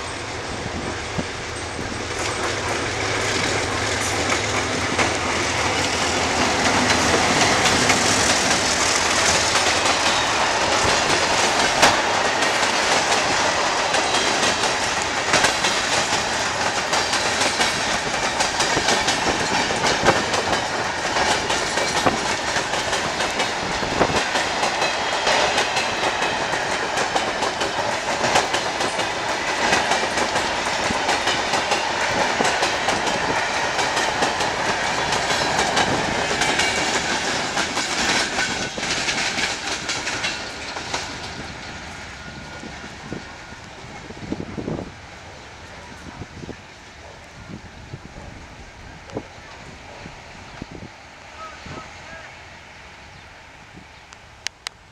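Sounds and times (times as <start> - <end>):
train wheels clattering over rail joints: 0.7 - 47.3.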